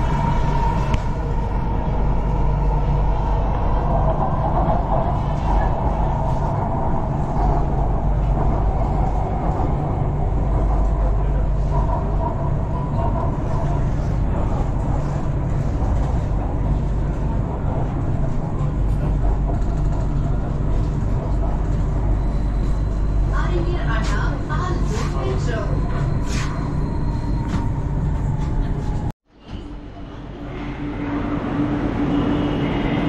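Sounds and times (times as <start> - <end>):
train wheels and motors rumbling: 0.0 - 33.0.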